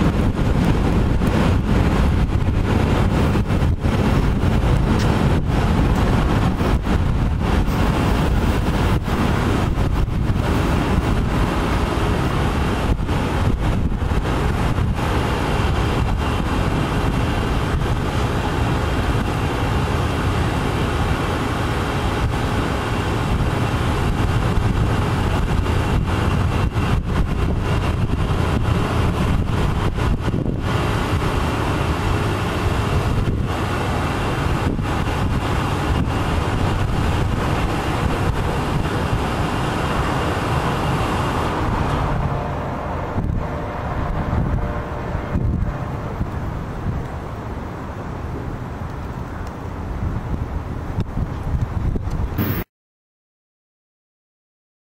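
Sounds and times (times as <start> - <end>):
freight train rumbling and rattling: 0.0 - 52.6
wind buffeting microphone: 0.0 - 52.6.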